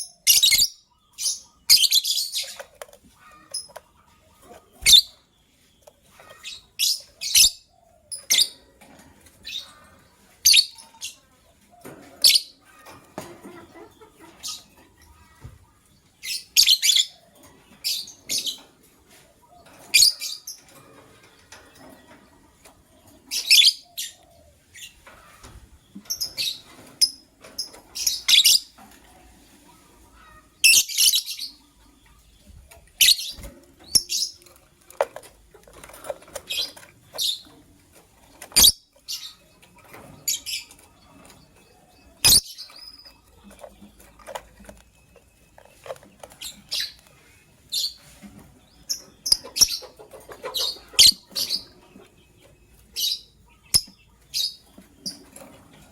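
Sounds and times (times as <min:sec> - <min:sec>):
lovebirds chirping: 0:00.0 - 0:55.9.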